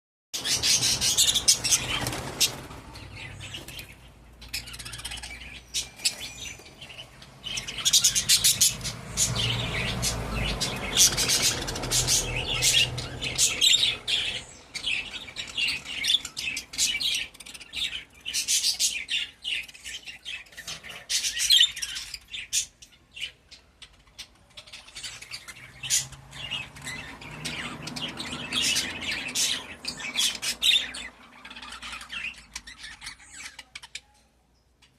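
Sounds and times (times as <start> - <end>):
budgerigars chirping and chattering: 0.4 - 34.9.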